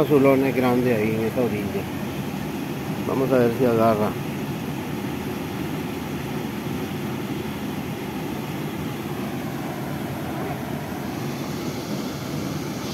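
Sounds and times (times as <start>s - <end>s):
river water rushing over rocks: 0.1s - 12.9s.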